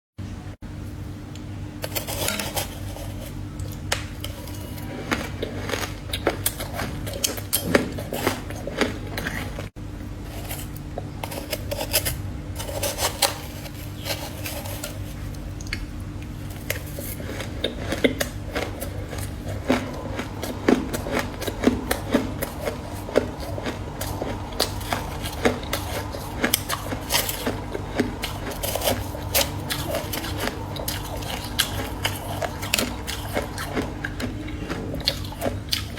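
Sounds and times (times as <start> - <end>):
steady low hum: 0.2 - 35.9
utensil scraping freezer frost: 1.8 - 3.4, 8.0 - 35.9.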